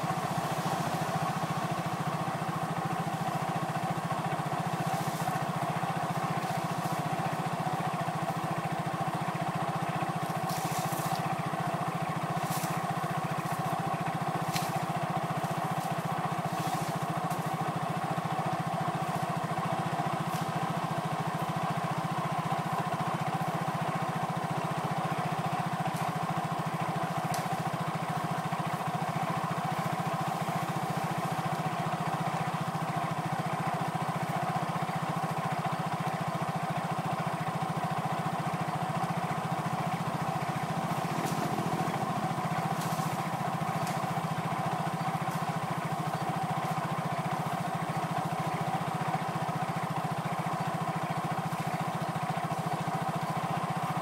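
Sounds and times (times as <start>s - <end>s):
small engine running steadily: 0.0s - 54.0s.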